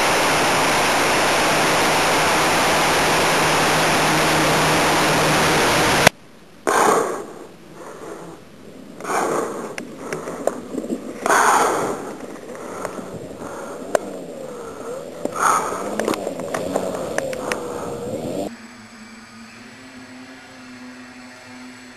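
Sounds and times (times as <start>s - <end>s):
model plane engine running: 0.0s - 6.1s, 7.3s - 21.9s.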